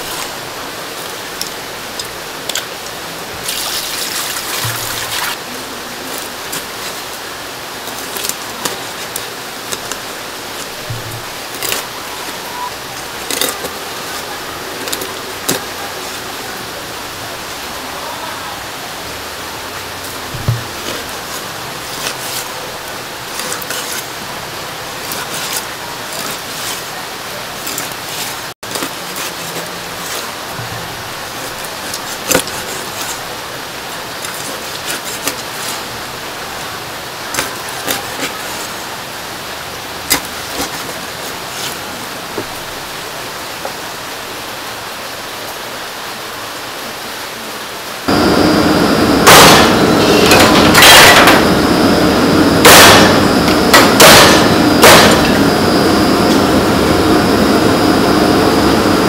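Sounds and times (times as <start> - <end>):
running water: 0.0 - 49.1.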